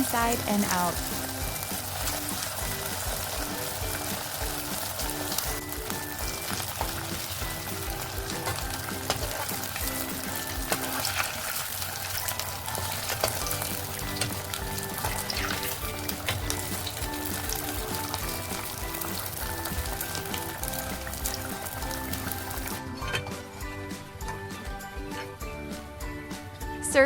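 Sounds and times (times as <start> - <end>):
food frying in oil: 0.0 - 22.8
background music with beat: 0.0 - 27.0.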